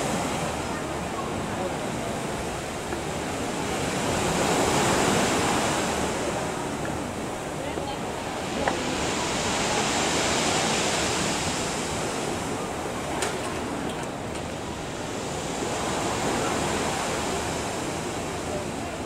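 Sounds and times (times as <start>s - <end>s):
sea waves rushing: 0.0s - 19.0s.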